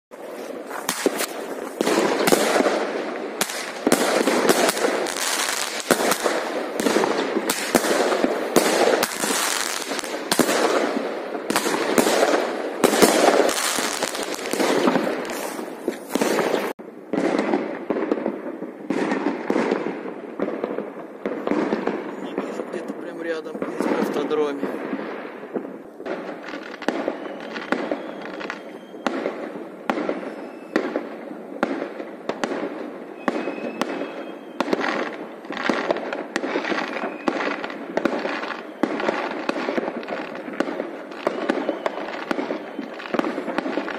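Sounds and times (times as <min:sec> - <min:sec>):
fireworks bangs and crackles: 0:00.1 - 0:43.9.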